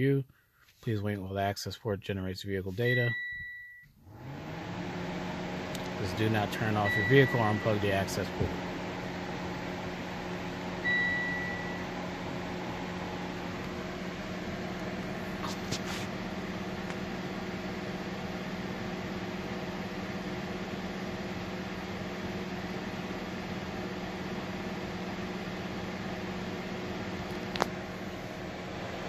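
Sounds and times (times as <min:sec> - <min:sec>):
cooling fan humming: 0:02.3 - 0:29.0.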